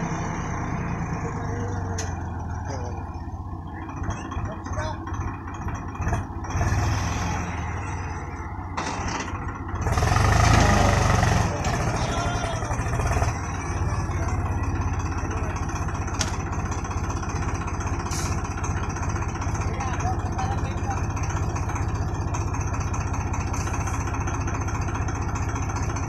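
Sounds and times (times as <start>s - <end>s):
diesel tractor engine under load: 0.0s - 26.0s.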